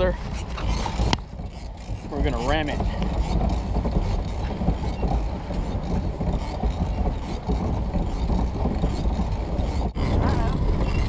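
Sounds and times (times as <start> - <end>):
pedal boat paddle wheel churning: 0.0 - 11.0.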